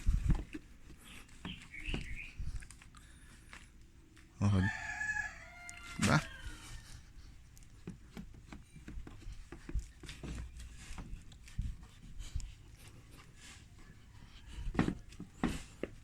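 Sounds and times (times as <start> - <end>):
soft rubbing and tapping handling: 0.0 - 16.0.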